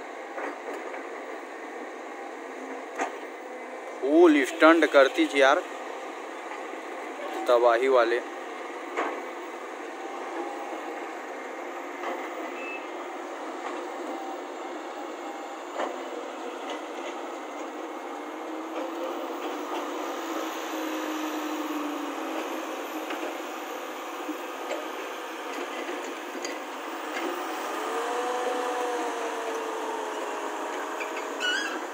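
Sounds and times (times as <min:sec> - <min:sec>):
diesel engines running: 0:00.0 - 0:31.9
truck driving off: 0:04.0 - 0:31.9.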